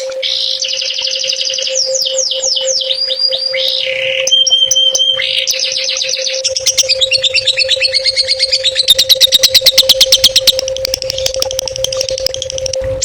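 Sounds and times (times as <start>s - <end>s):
steady low hum: 0.0s - 13.0s
songbird singing rapid notes: 0.2s - 12.8s.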